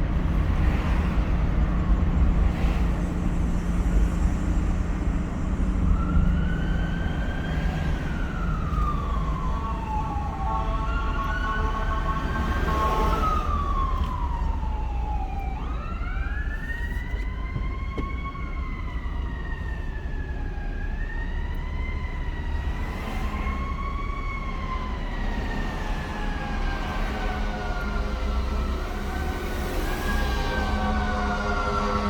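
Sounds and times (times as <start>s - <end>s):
car engine rumble: 0.0s - 32.0s
siren wailing: 5.9s - 32.0s.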